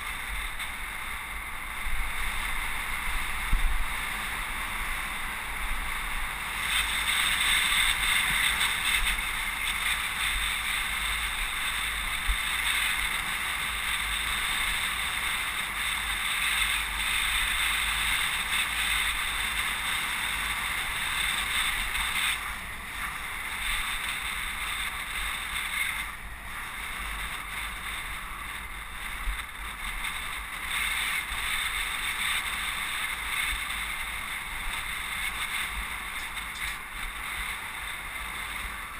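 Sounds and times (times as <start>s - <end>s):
road and traffic noise: 0.0s - 38.9s
wind buffeting microphone: 0.0s - 38.9s.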